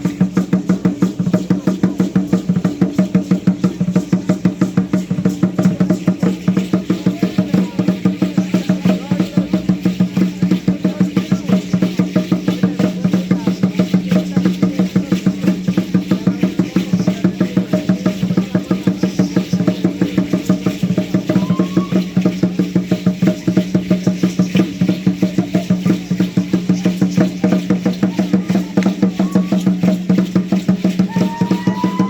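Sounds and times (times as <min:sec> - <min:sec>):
fast drum beat: 0:00.0 - 0:32.0.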